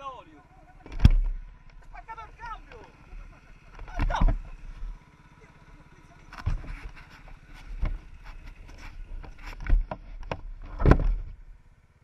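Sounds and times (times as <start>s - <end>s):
atv engine drone: 0.0s - 12.0s.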